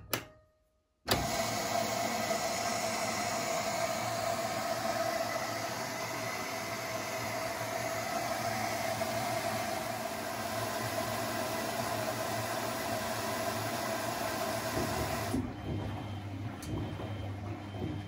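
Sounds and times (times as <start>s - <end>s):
washing machine hissing: 1.1s - 18.0s.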